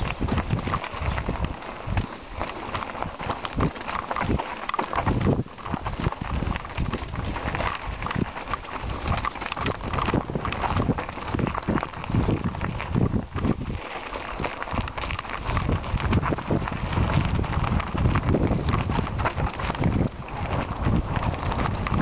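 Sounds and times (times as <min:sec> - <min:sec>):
bike knocks and rattles: 0:00.0 - 0:22.0
tyres crunching on gravel: 0:00.0 - 0:22.0.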